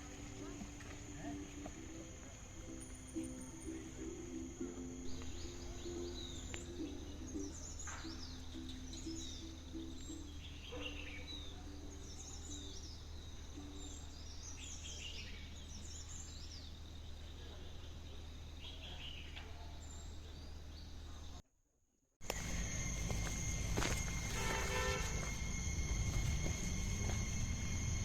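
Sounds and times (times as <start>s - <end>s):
steady low hum: 0.0s - 18.8s, 22.2s - 28.0s
birds chirping: 0.0s - 21.4s, 22.2s - 28.0s.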